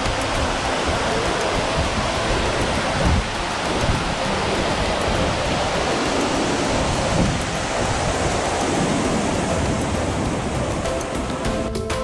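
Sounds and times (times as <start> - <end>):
waterfall roaring: 0.0 - 11.6.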